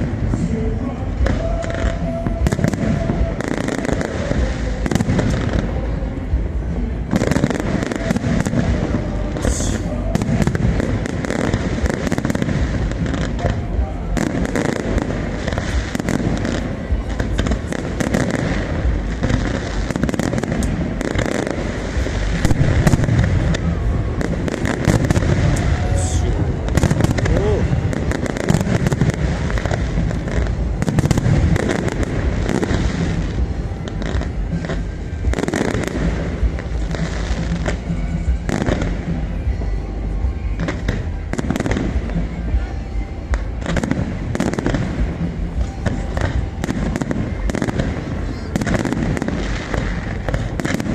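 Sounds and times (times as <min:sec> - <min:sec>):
fireworks crackling and banging: 0:00.0 - 0:50.9
low rumble of explosions: 0:00.0 - 0:50.9.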